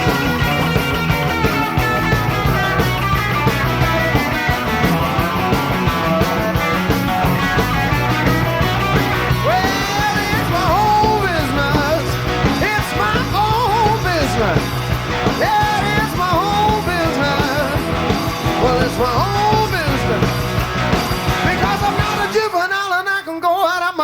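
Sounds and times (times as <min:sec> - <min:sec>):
live rock band playing: 0:00.0 - 0:22.8
sliding lead guitar line: 0:00.0 - 0:22.8.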